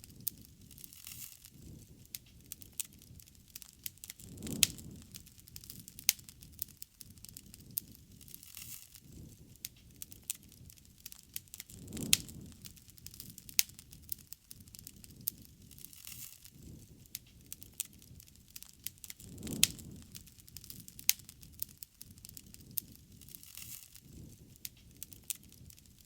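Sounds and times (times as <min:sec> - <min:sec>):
burning wood popping and snapping: 0:00.0 - 0:26.0
soft low flame noise: 0:00.0 - 0:26.0.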